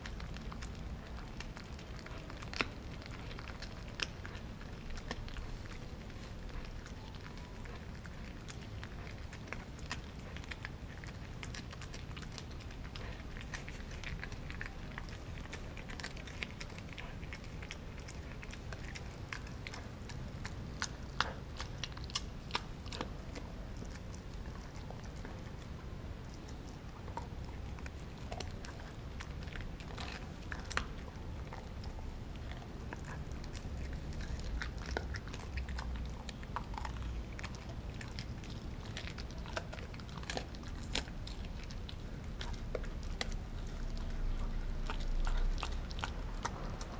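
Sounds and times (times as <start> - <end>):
dog chewing frozen meat: 0.0 - 46.9.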